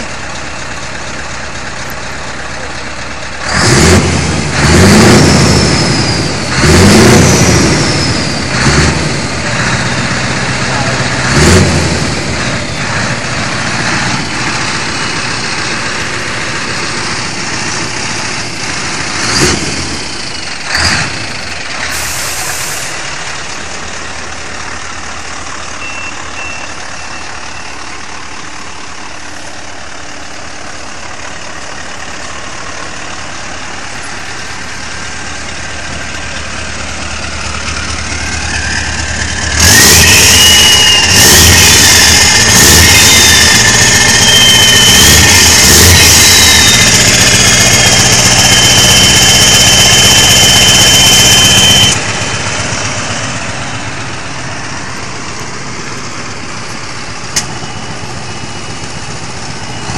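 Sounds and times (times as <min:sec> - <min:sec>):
truck diesel engine revving: 0:00.0 - 0:59.9.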